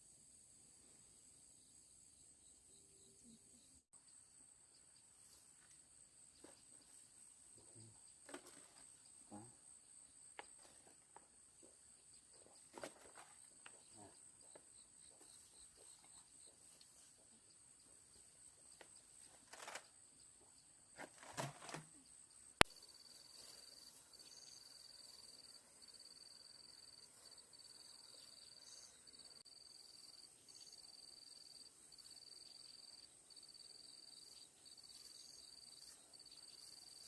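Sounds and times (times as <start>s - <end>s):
crickets chirring: 0.1s - 37.0s.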